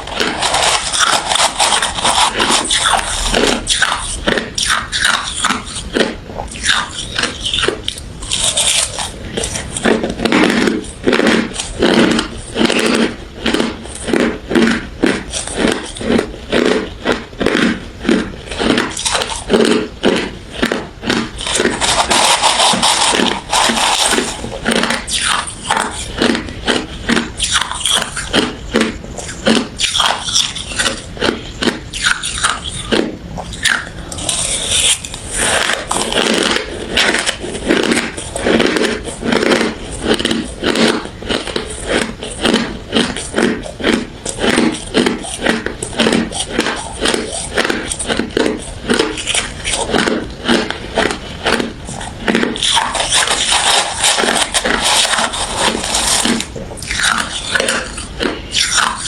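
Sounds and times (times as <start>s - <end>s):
chewing crushed ice: 0.0s - 59.0s.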